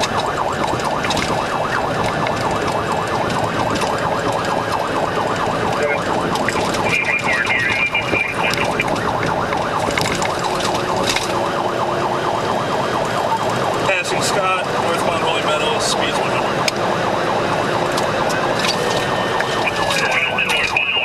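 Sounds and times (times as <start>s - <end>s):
police siren yelp: 0.0s - 21.0s.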